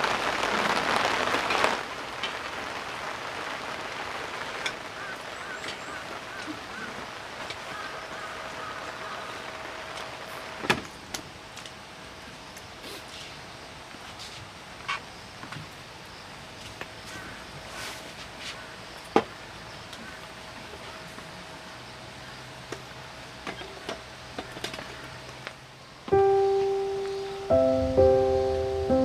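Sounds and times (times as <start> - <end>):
heavy rain hissing: 0.0 - 24.3, 24.9 - 29.0.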